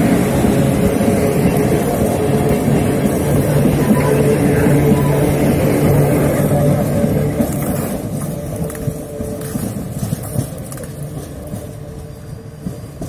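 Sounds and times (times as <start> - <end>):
train wheels rumbling over track: 0.0 - 13.0.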